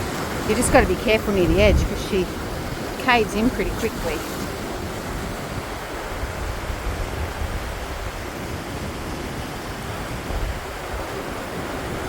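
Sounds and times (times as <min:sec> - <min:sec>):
water rushing into surf: 0:00.0 - 0:12.0
wind rumble on microphone: 0:00.0 - 0:12.0.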